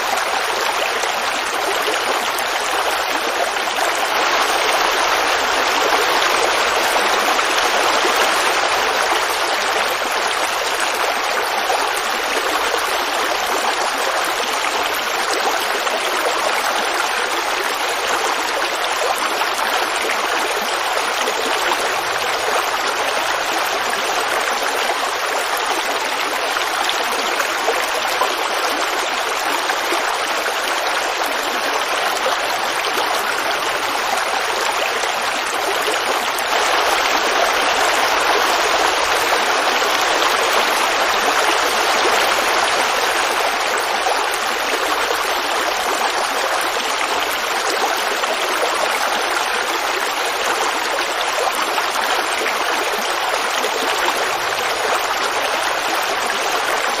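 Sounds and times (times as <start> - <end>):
creek water babbling: 0.0 - 57.0.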